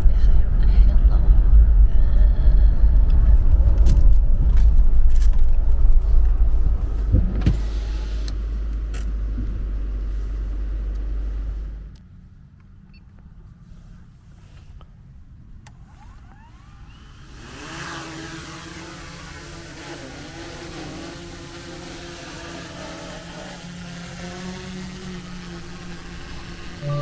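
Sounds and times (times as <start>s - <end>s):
car road rumble: 0.0s - 27.0s.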